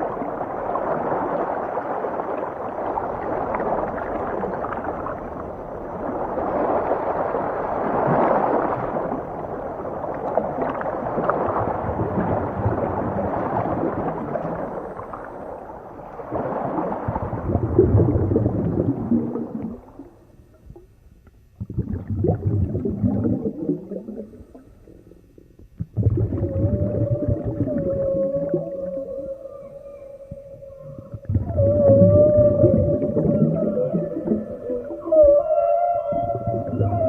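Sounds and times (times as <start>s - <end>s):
deep underwater rumble: 0.0s - 37.0s
underwater water gurgling: 0.0s - 37.0s.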